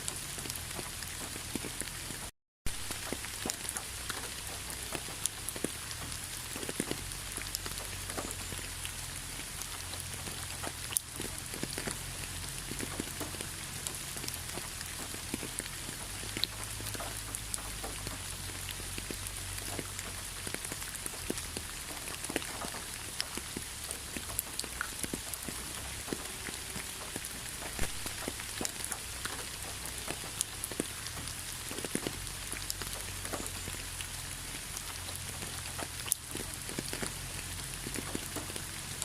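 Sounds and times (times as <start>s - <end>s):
rain drops ticking on surface: 0.0s - 39.0s.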